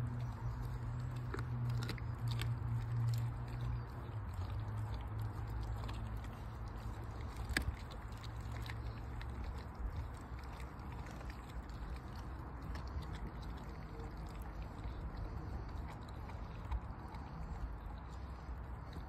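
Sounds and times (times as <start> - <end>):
dog chewing and crunching: 0.0 - 19.0
low steady hum: 0.0 - 19.0.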